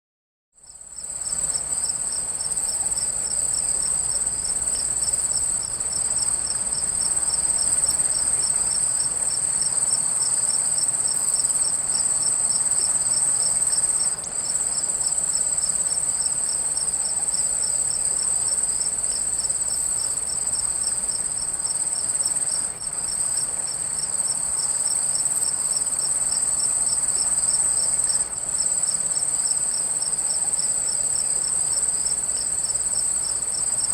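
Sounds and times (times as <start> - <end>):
crickets chirping: 0.6 - 33.9.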